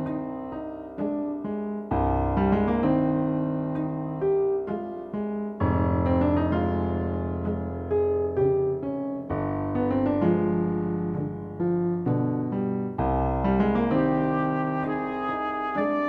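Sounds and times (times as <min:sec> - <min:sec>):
piano chords and melody: 0:00.0 - 0:16.0.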